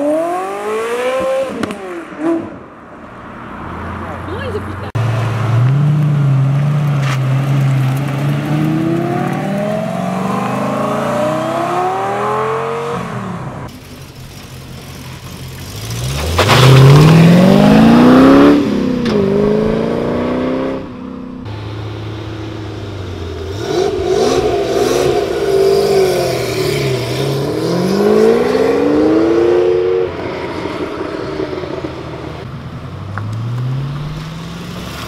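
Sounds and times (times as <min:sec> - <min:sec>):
second sports car accelerating: 0:05.0 - 0:13.7, 0:15.5 - 0:35.0
sports car engine accelerating: 0:05.0 - 0:13.7, 0:15.6 - 0:35.0.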